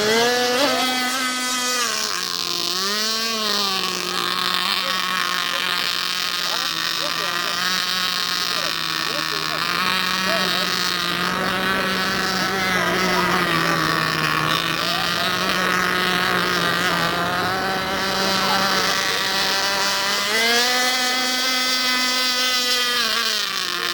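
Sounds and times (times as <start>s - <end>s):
model boat engines whining: 0.0s - 23.9s.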